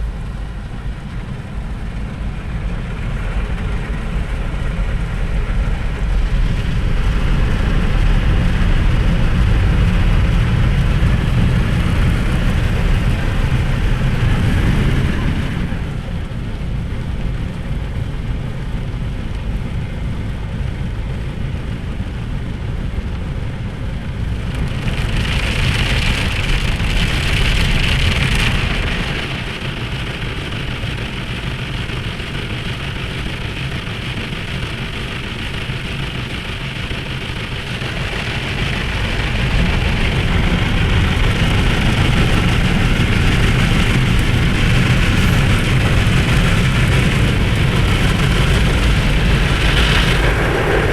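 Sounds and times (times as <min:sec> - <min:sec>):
car wash machinery rumble: 0:00.0 - 0:50.9.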